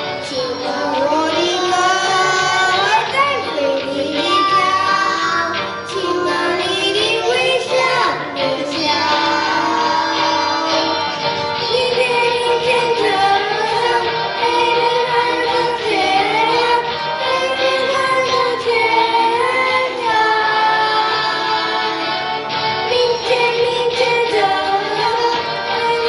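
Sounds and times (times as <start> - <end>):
children singing into microphones: 0.0 - 26.0
musical accompaniment: 0.0 - 26.0.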